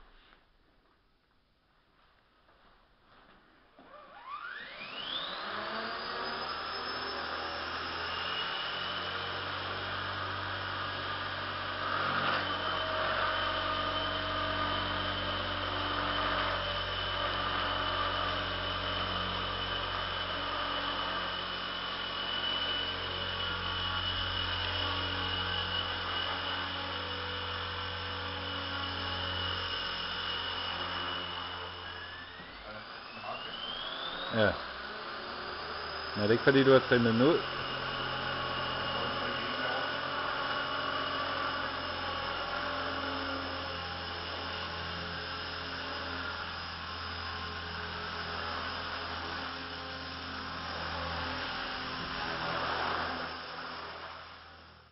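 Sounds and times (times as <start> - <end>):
model helicopter motor whine: 3.8 - 54.9
rotor blades humming: 9.4 - 54.4.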